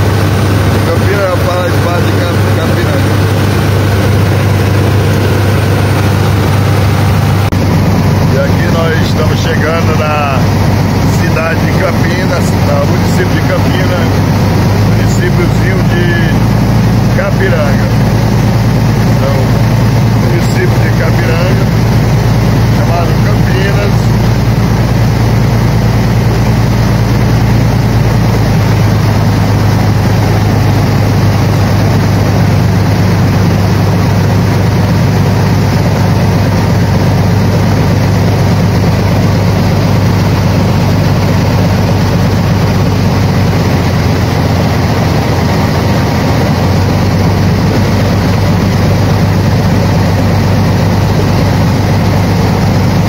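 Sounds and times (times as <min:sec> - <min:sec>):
speedboat engine drone: 0:00.0 - 0:53.0.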